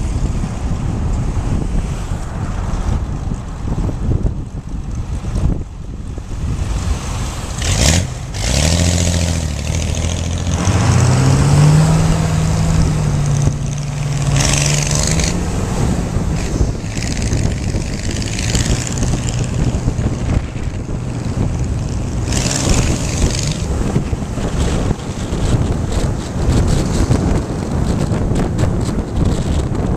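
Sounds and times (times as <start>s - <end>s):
car engine: 0.0s - 29.9s
oncoming cars passing: 0.0s - 29.9s
wind noise: 0.0s - 29.9s.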